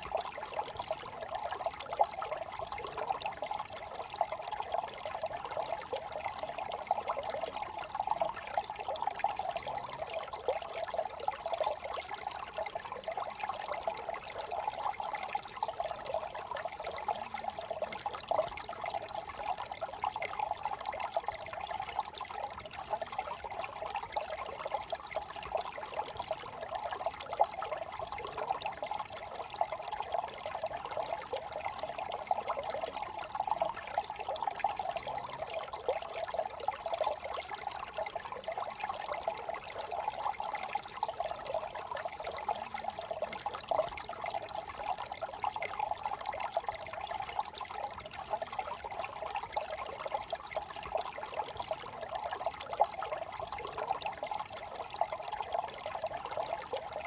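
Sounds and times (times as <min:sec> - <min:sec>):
brook trickling over stones: 0:00.0 - 0:57.0.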